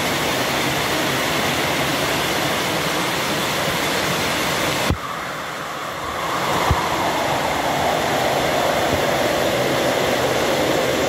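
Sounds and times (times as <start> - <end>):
heavy rain on vegetation: 0.0 - 11.0.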